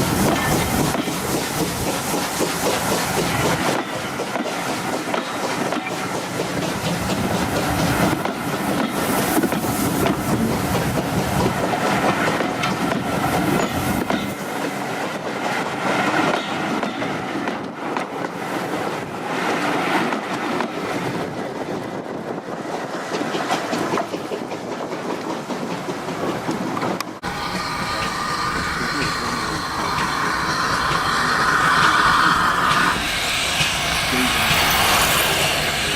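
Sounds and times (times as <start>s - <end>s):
train running noise: 0.0s - 35.9s
train wheels clicking over joints: 0.0s - 35.9s.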